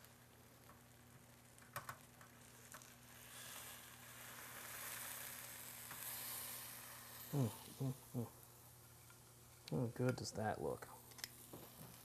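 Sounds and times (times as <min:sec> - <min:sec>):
fish sizzling: 0:00.0 - 0:12.0.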